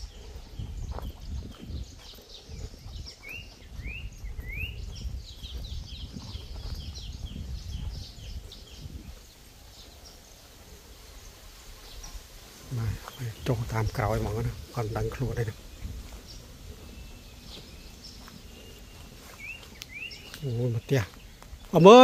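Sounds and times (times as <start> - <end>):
birds singing: 0.0 - 22.0.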